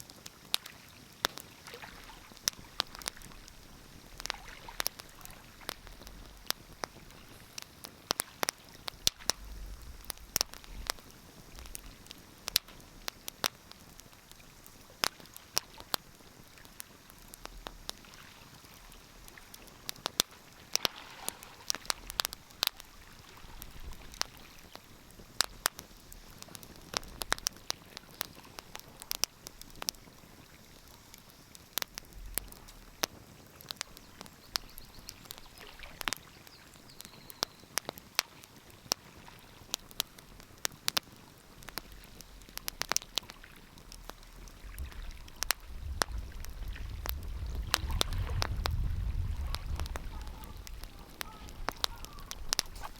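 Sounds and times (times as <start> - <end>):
faint steady hiss: 0.0 - 52.9
wood fire crackling: 0.0 - 52.9.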